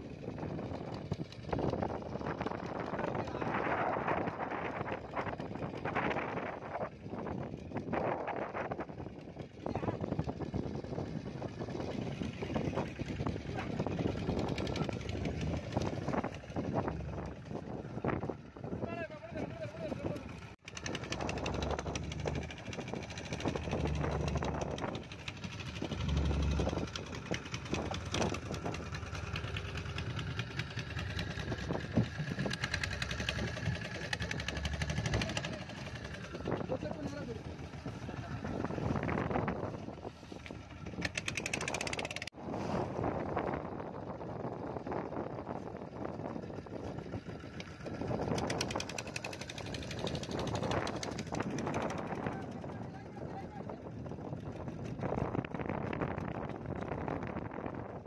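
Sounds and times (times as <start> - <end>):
boat engine knocking: 0.0 - 42.4, 44.0 - 58.0.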